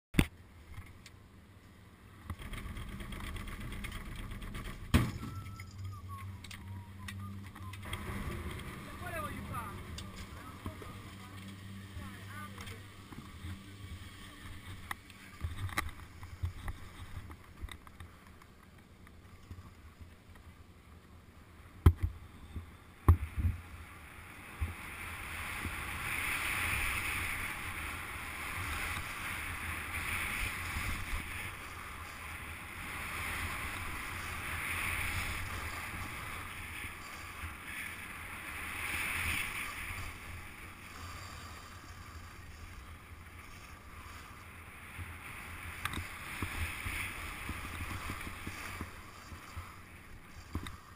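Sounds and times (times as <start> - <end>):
low wind rumble: 0.4 - 50.9.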